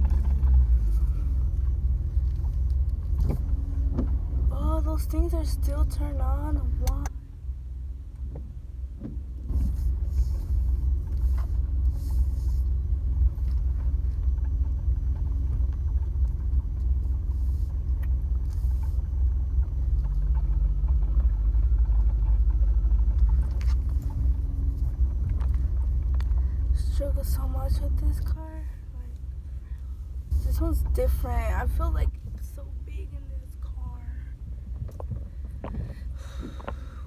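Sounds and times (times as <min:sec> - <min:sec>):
road noise: 0:00.0 - 0:37.0
truck engine rumble: 0:00.0 - 0:37.0.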